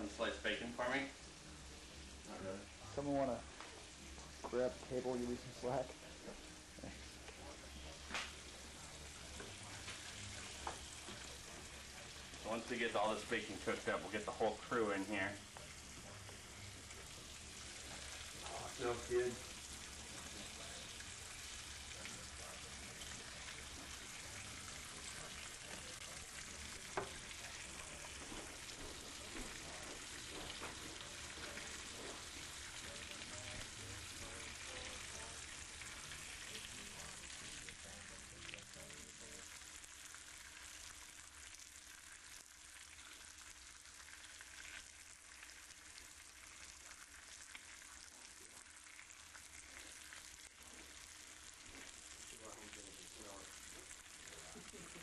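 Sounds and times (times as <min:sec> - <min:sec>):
bacon sizzling on griddle: 0:00.0 - 0:55.0.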